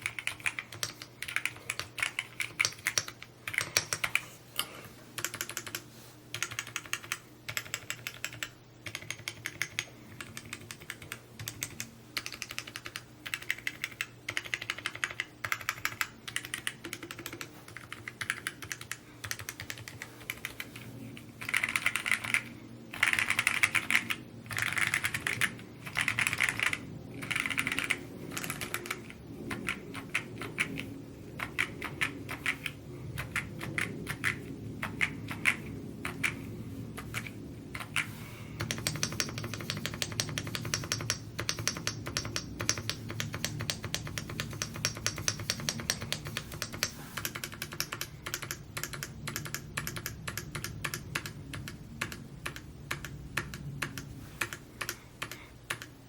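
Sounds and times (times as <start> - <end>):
mechanical keyboard typing: 0.0 - 4.3, 5.2 - 36.4, 37.0 - 56.0.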